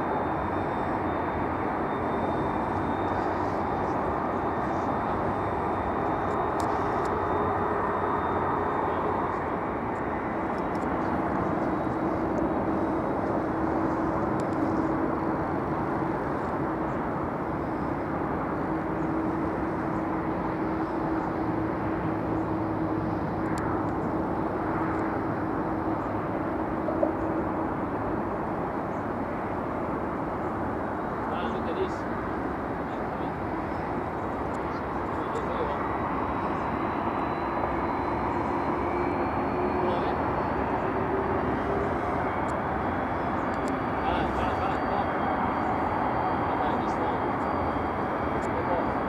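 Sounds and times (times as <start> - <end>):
jet engines running: 0.0 - 49.0.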